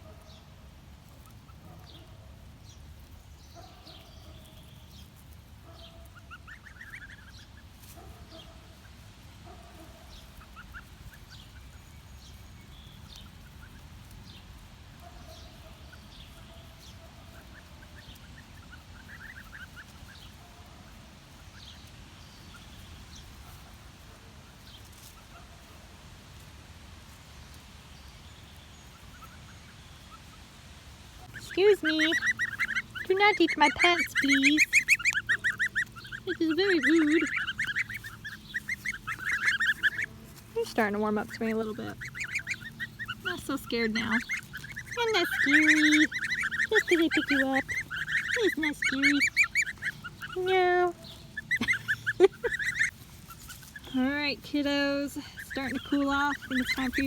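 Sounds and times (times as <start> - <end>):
goslings peeping: 0.0 - 57.0.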